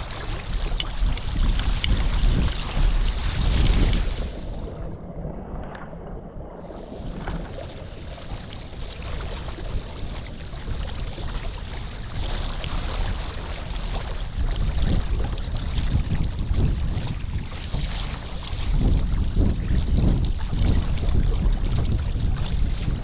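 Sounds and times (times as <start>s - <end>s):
gusty wind buffeting microphone: 0.0s - 23.0s
water rushing past hull: 0.0s - 23.0s.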